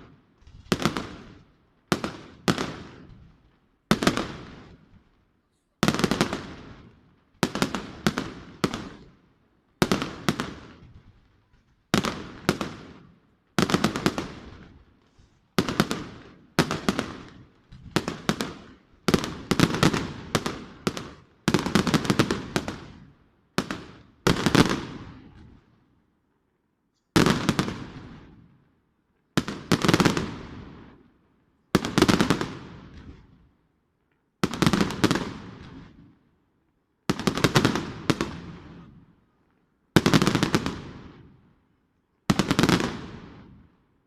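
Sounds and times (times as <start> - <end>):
fireworks banging and crackling: 0.0 - 25.9, 27.1 - 28.6, 29.2 - 36.3, 37.0 - 39.3, 39.9 - 41.6, 42.2 - 43.8.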